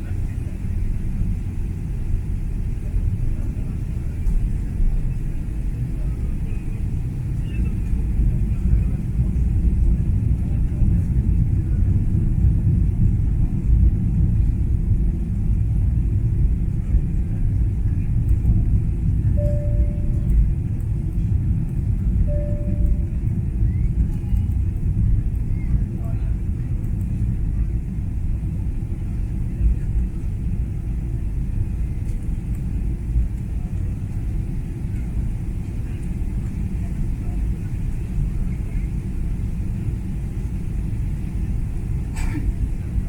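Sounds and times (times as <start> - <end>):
airliner engines and airflow rumble: 0.0 - 43.0.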